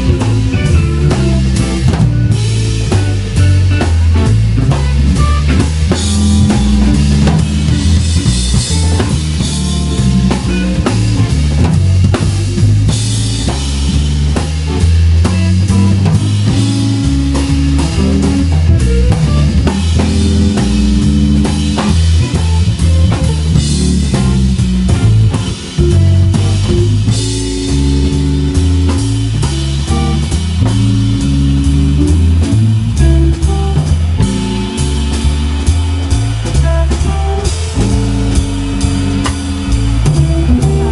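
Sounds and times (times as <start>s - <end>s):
drum kit with cymbals: 0.0s - 40.9s
electric bass line: 0.0s - 40.9s
electric guitar: 0.0s - 40.9s.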